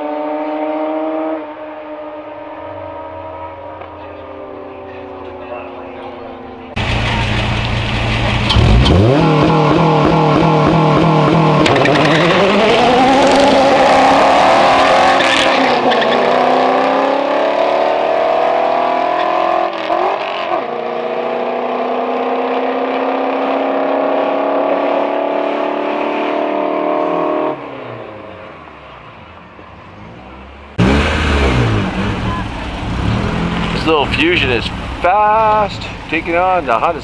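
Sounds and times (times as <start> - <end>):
car engine accelerating hard: 0.0 - 29.0, 29.9 - 37.0.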